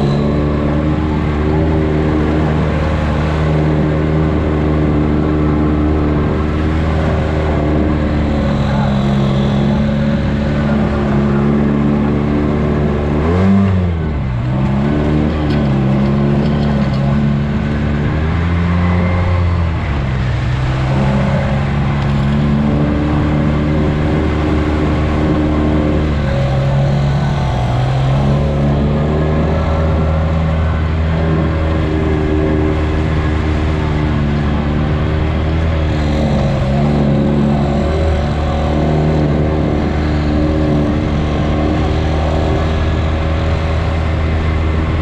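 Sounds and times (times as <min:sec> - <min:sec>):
utility vehicle engine revving: 0:00.0 - 0:45.0.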